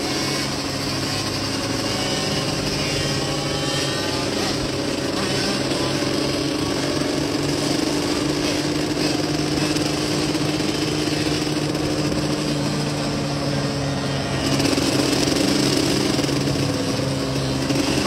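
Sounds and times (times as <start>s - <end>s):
dirt bike engine running: 0.0s - 18.0s
wind and road noise: 0.0s - 18.0s.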